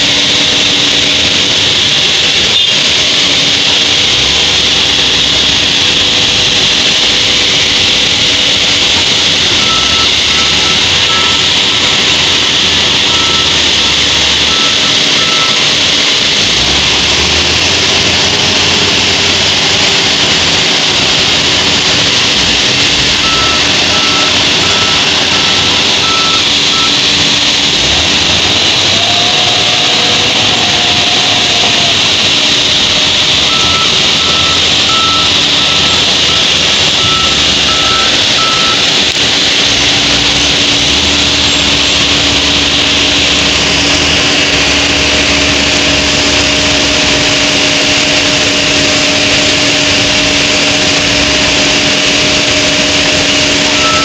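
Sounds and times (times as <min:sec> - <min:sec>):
diesel engines running under load: 0:00.0 - 0:54.0
reversing alarm beeping: 0:00.0 - 0:54.0.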